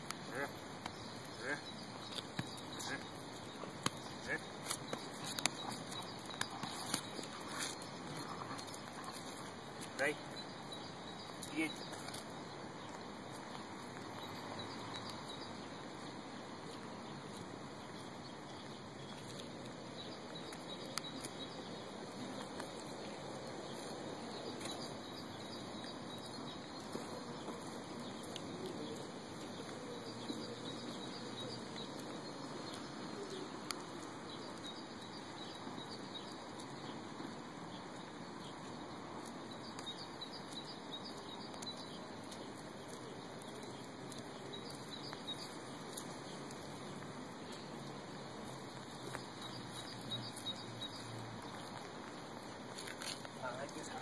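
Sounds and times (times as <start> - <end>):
outdoor background noise: 0.0 - 54.0
small birds chirping faintly: 0.0 - 54.0.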